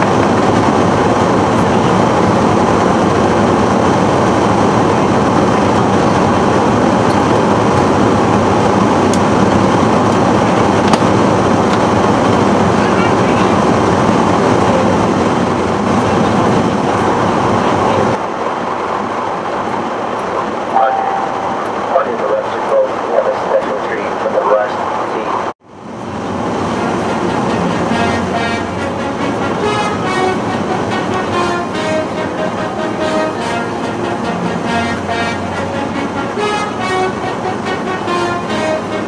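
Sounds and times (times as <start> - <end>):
airliner cabin roar: 0.0 - 39.0.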